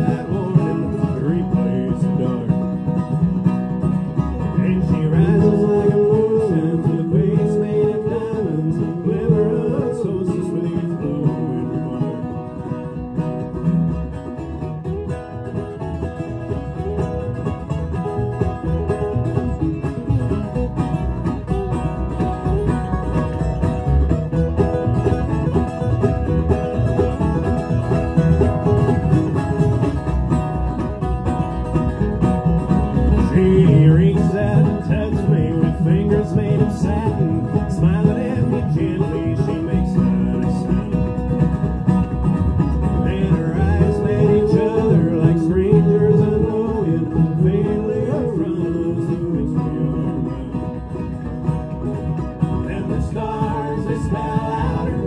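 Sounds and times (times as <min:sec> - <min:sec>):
bluegrass string band playing: 0:00.0 - 0:55.0.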